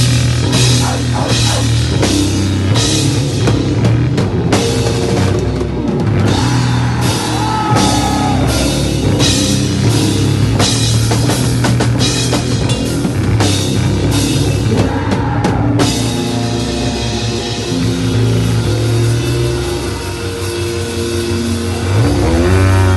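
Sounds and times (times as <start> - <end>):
distorted guitars: 0.0 - 22.9
drum kit with crashing cymbals: 0.0 - 22.9
hardcore band playing live: 0.0 - 22.9.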